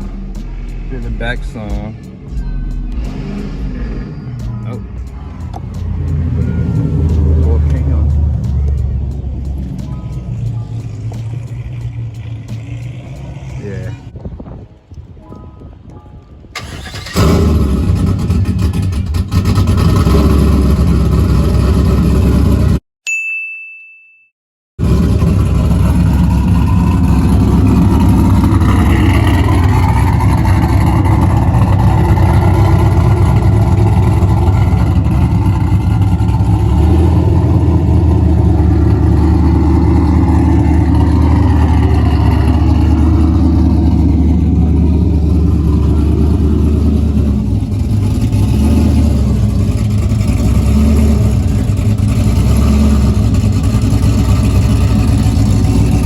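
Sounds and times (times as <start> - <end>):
car engine idling: 0.0 - 14.1, 16.4 - 22.8, 24.8 - 56.0.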